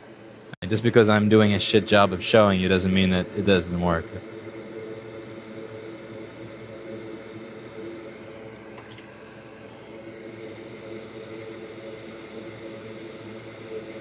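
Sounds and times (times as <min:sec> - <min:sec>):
fan humming: 0:00.0 - 0:14.0.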